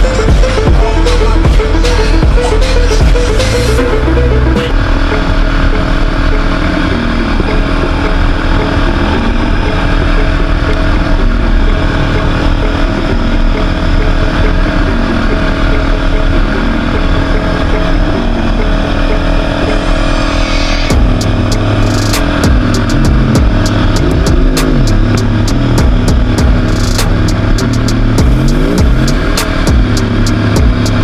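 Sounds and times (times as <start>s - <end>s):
quad bike engine drone: 0.0s - 31.0s.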